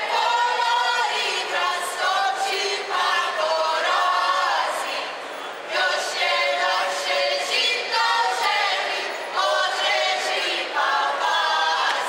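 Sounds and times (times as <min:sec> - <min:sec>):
men and women singing a cappella: 0:00.0 - 0:12.0.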